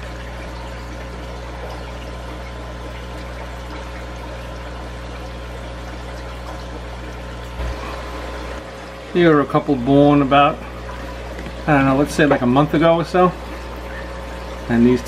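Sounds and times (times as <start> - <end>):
water pouring and trickling: 0.0 - 15.0.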